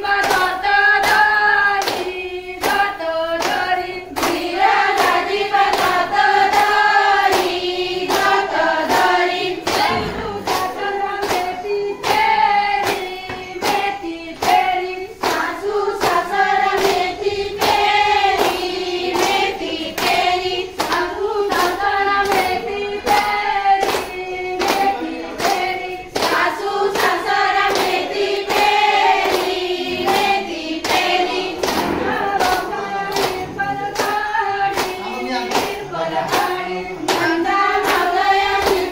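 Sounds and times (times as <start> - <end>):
hand claps: 0.0 - 38.9
women singing together: 0.0 - 38.9.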